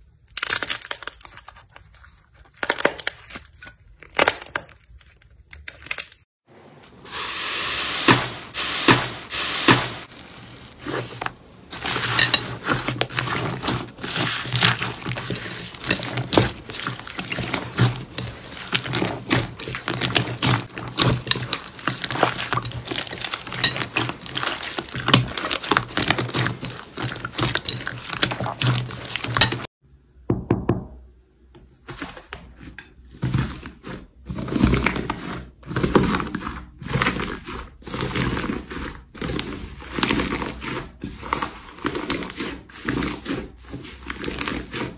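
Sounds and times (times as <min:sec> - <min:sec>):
slime crackling and squishing: 0:00.0 - 0:06.3, 0:08.1 - 0:29.7, 0:33.0 - 0:44.9.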